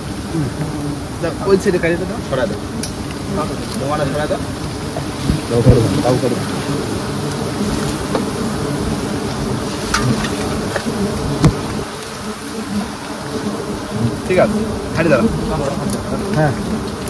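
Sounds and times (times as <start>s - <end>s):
bees buzzing densely: 0.0s - 17.0s.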